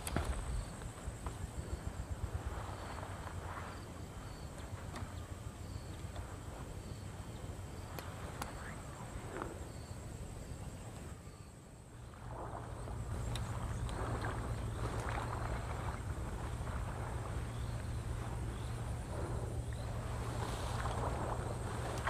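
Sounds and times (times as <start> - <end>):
insects chirping: 0.0 - 22.0
wind rumble on microphone: 0.0 - 22.0.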